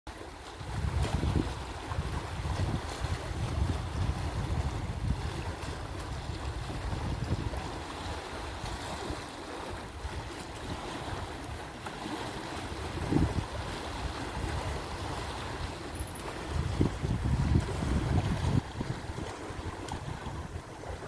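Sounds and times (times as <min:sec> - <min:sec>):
lake waves washing ashore: 0:00.1 - 0:21.0
wind buffeting microphone: 0:00.6 - 0:21.0.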